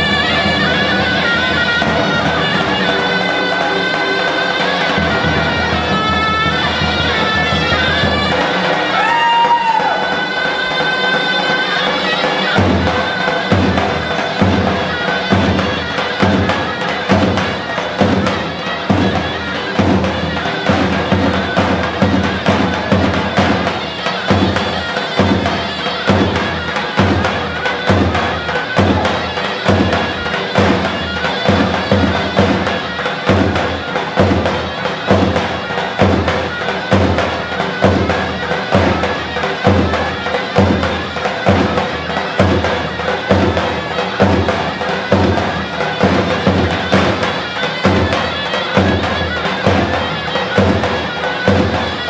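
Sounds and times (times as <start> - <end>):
shrill reed wind instrument: 0.0 - 52.0.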